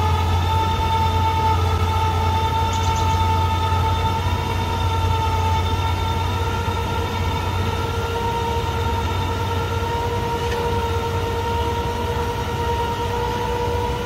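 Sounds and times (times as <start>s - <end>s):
motorised winch whining: 0.0s - 14.0s.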